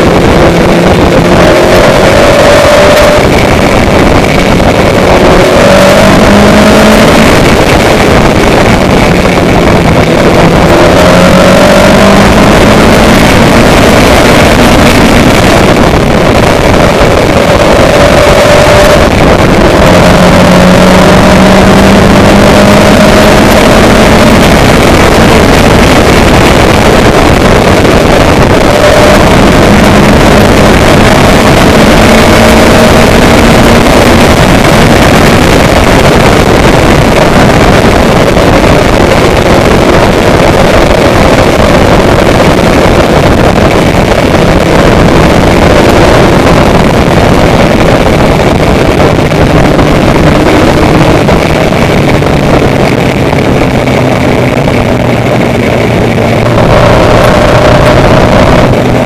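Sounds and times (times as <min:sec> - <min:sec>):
low engine hum: 0:00.0 - 0:59.0
vehicle rushing noise: 0:00.0 - 0:59.0.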